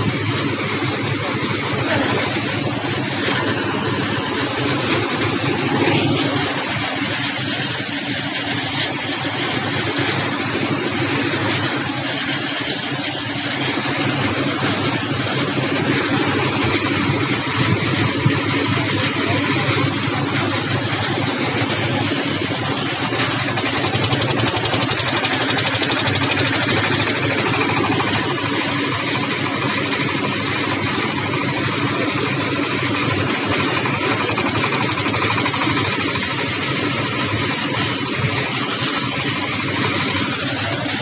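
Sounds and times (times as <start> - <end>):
concrete mixer engine running: 0.0 - 41.0.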